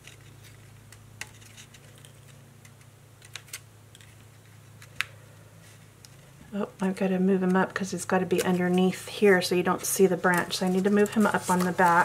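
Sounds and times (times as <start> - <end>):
paper rustling and clicking: 0.0 - 7.6, 8.2 - 12.0
low steady hum: 0.0 - 12.0.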